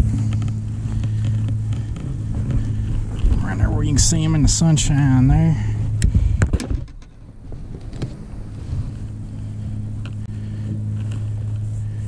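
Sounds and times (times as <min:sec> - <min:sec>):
boat motor humming: 0:00.0 - 0:12.0
wind on microphone: 0:00.0 - 0:12.0.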